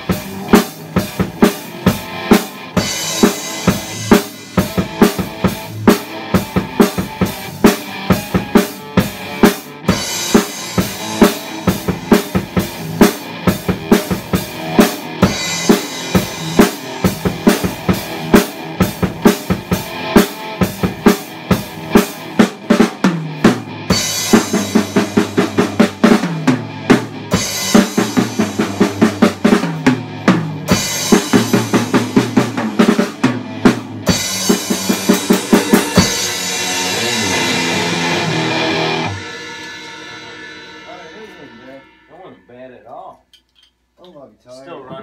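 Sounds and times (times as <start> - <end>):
pitched instruments music: 0.0 - 43.0
drum-kit beat: 0.0 - 43.1.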